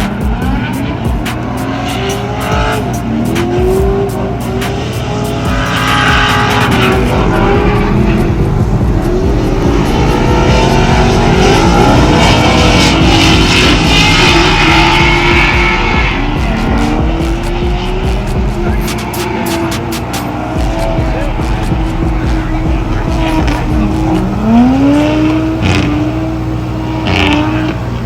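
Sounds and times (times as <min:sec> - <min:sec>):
engines revving off limiter: 0:00.0 - 0:28.0
sharp exhaust crackles: 0:00.0 - 0:28.0.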